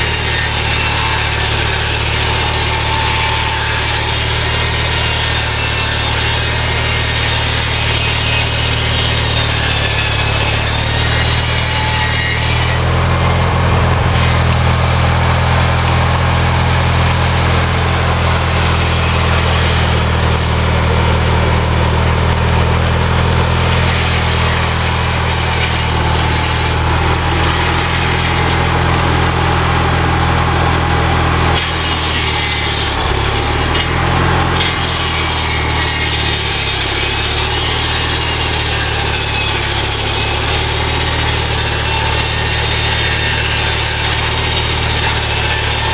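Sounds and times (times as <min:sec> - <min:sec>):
hissing saw noise: 0:00.0 - 0:45.9
small engine running: 0:00.0 - 0:45.9.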